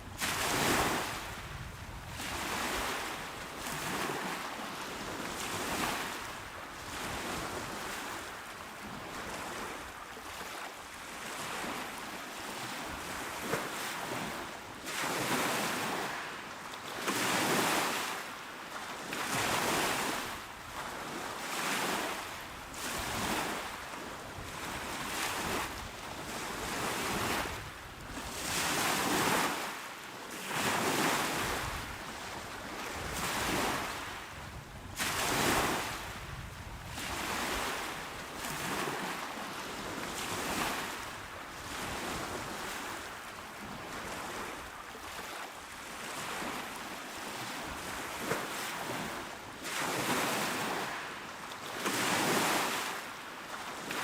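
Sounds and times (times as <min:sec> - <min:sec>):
small waves washing onto shore: 0:00.0 - 0:54.0.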